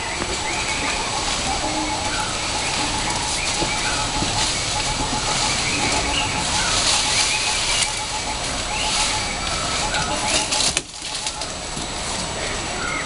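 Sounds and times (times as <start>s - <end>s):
birds chirping and trilling: 0.0s - 13.0s
noisy background: 0.0s - 13.0s.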